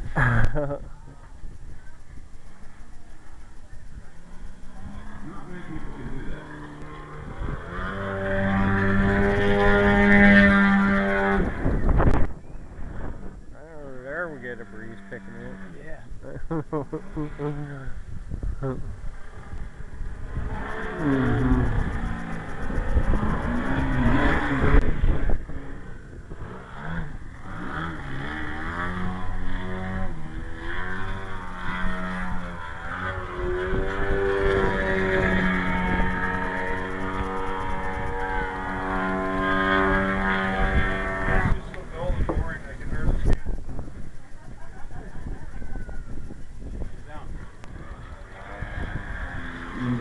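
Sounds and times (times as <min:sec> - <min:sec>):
model airplane engine running: 0:00.0 - 0:50.0
wind rumbling on microphone: 0:00.0 - 0:50.0.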